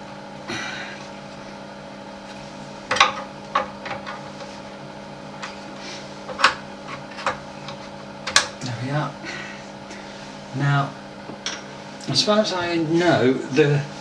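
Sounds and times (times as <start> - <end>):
extractor fan humming: 0.0 - 14.0.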